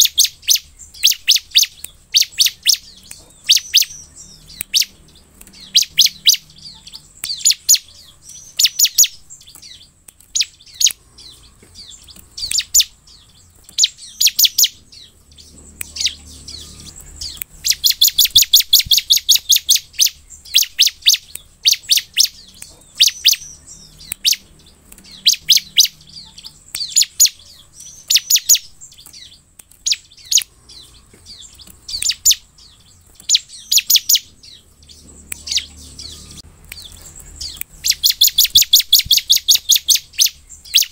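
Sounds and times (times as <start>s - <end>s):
bird chirping: 0.0s - 40.9s
bird trilling: 0.0s - 40.9s.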